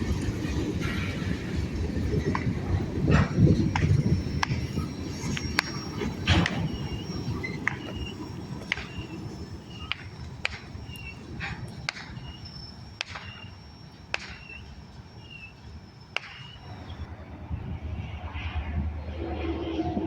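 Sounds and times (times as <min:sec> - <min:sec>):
train wheels clicking over rail joints: 0:00.0 - 0:17.0
low rumble of freight train: 0:00.0 - 0:20.0.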